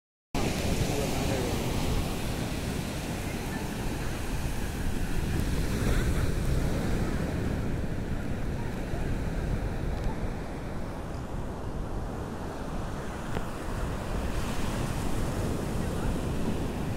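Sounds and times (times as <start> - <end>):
surf washing onto beach: 0.4 - 16.9
wind buffeting microphone: 0.4 - 16.9.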